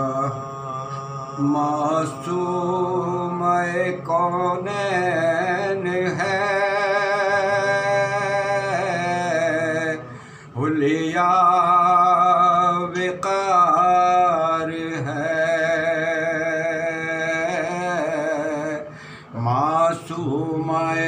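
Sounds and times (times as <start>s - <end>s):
man singing unaccompanied elegy: 0.0s - 21.0s.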